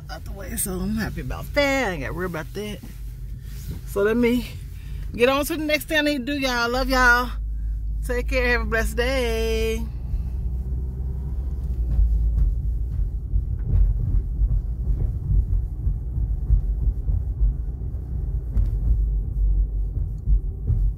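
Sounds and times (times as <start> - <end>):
car engine rumble: 0.0 - 20.9
road noise inside car: 0.0 - 20.9.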